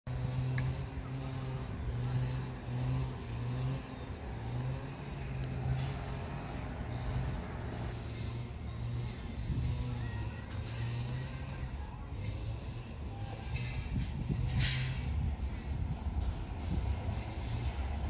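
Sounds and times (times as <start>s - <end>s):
low engine drone: 0.1s - 18.0s
rumble: 0.1s - 18.0s.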